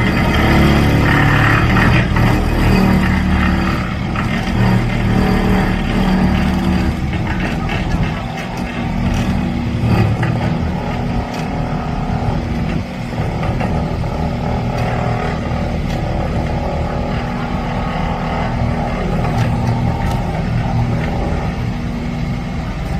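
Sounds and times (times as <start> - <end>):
loud excavator machine drone: 0.0 - 22.9.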